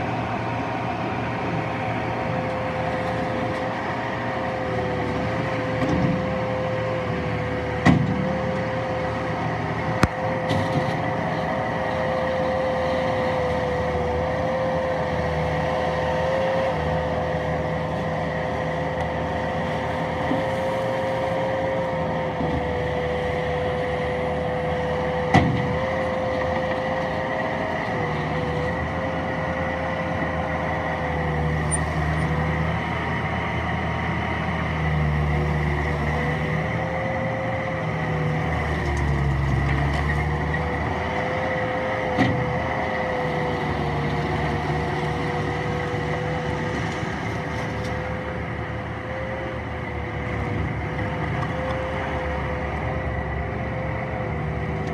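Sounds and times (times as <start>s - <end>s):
diesel engine whining: 0.0s - 54.9s.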